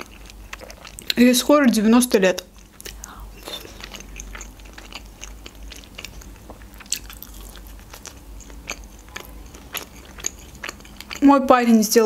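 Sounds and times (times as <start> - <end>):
person chewing pizza: 0.0 - 1.2, 2.4 - 11.3.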